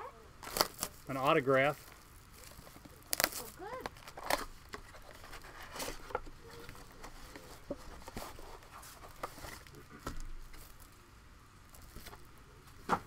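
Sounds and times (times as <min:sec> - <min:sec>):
cardboard box and cards handled: 0:00.4 - 0:10.9, 0:11.7 - 0:13.0.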